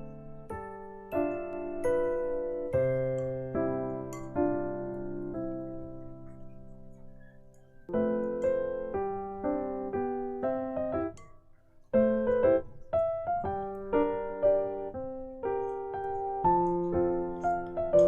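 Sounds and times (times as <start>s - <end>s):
piano notes and chords: 0.0s - 18.0s.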